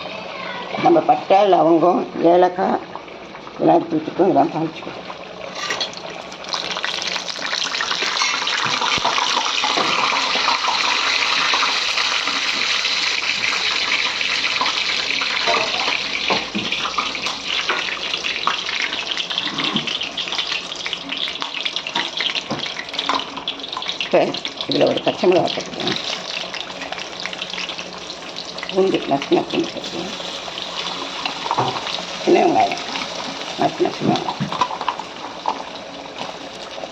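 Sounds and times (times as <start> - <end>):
hot oil sizzling with spices: 5.2 - 36.9.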